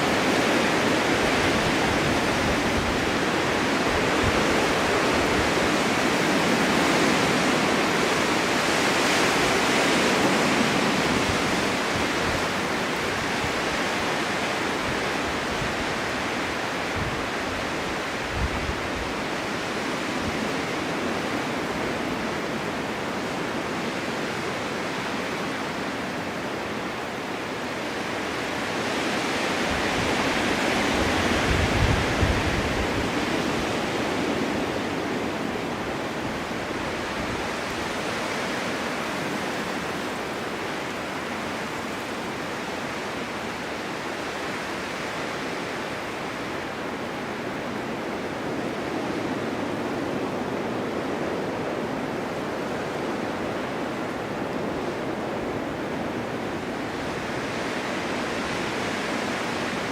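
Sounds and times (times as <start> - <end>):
blizzard wind blowing: 0.0 - 59.9.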